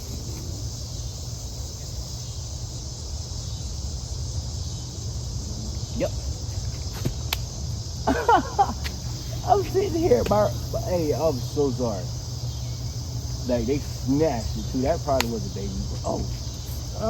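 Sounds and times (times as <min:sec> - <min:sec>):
crickets and insects chirring: 0:00.0 - 0:17.0
low steady rumble: 0:00.0 - 0:17.0.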